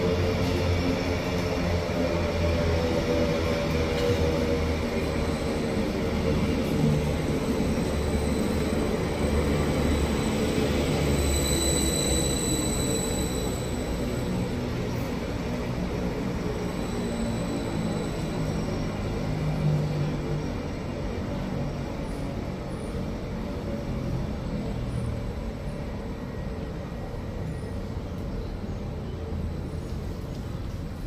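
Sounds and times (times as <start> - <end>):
high-pitched train squeal: 0.0 - 30.3
train rumbling: 0.0 - 31.0.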